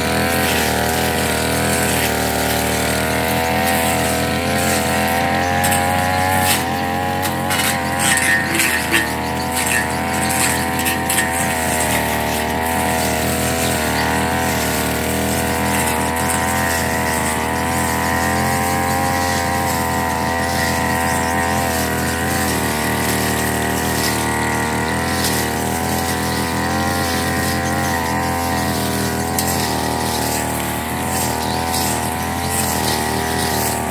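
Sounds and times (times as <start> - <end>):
brush cutter engine running: 0.0 - 33.9.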